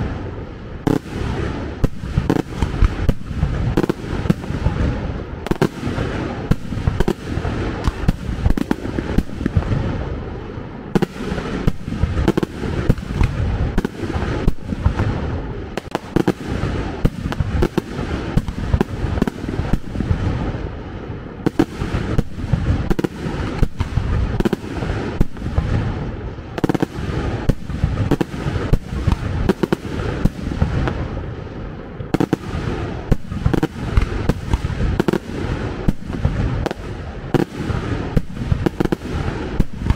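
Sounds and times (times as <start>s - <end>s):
fireworks bangs and booms: 0.0s - 39.9s.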